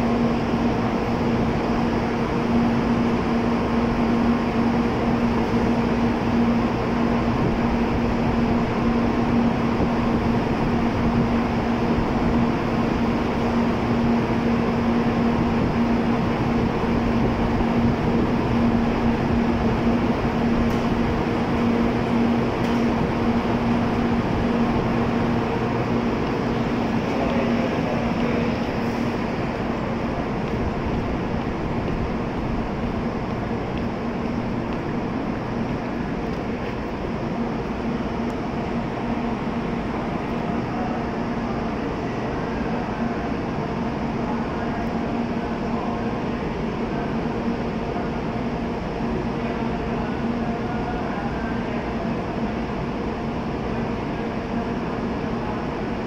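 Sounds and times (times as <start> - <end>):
train equipment humming: 0.0 - 56.0.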